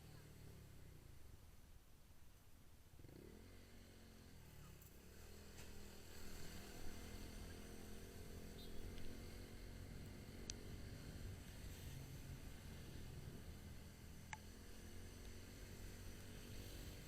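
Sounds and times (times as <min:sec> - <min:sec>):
motorcycle engine running: 0:03.0 - 0:17.0.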